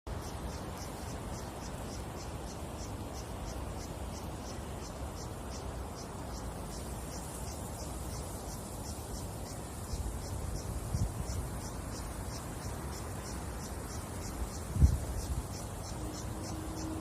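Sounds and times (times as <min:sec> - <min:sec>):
insect chirping: 0:00.1 - 0:17.0.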